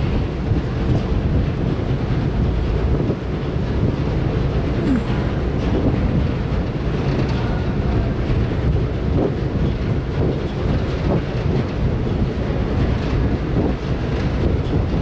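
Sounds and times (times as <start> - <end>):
ship engine rumble: 0.0 - 15.0
wind buffeting microphone: 0.0 - 15.0.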